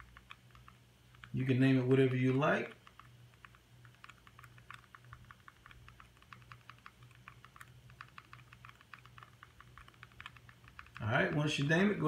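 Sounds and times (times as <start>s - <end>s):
remote control buttons clicking: 0.0s - 11.4s
low steady hum: 0.0s - 12.0s.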